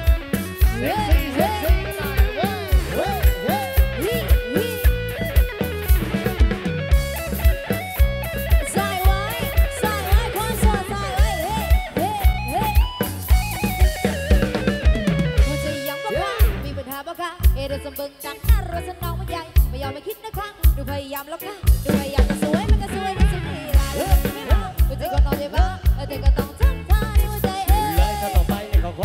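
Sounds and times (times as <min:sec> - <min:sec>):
drum kit beat: 0:00.0 - 0:17.7, 0:20.6 - 0:29.0
electric bass: 0:00.0 - 0:29.0
electric guitar lead melody: 0:00.0 - 0:29.0.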